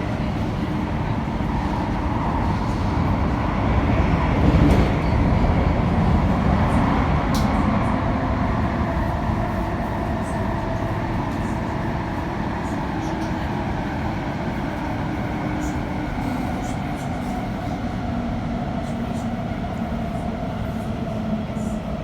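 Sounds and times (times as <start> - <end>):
train rumbling in tunnel: 0.0 - 22.0.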